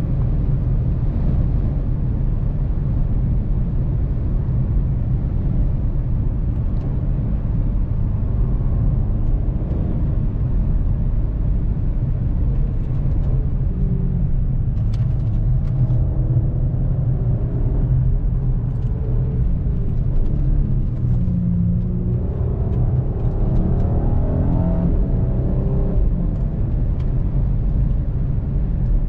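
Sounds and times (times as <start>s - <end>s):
car engine rumble: 0.0s - 29.0s
road and tyre noise: 0.0s - 29.0s.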